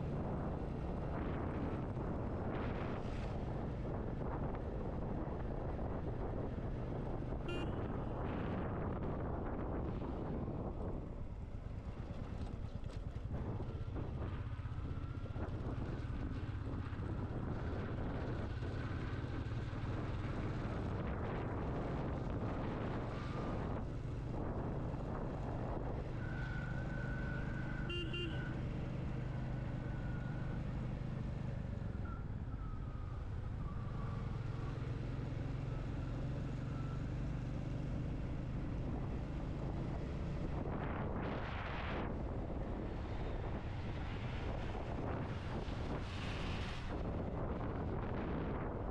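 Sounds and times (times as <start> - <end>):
road and wind noise: 0.0 - 48.9.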